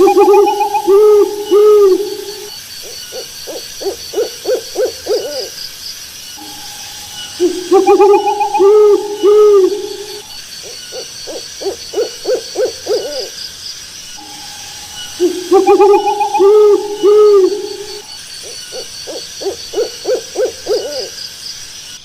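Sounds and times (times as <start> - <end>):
owl hooting: 0.0 - 5.6, 6.4 - 13.4, 14.2 - 21.2.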